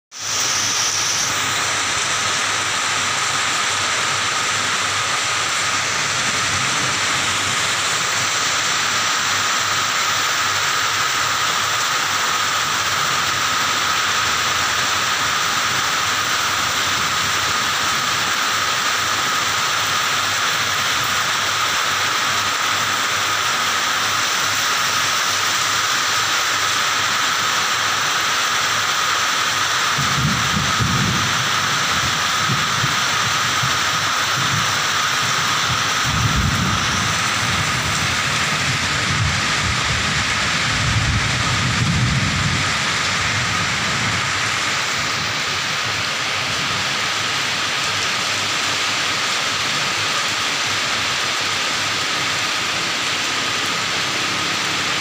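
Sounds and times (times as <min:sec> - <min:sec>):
steady rain falling: 0:00.1 - 0:55.0.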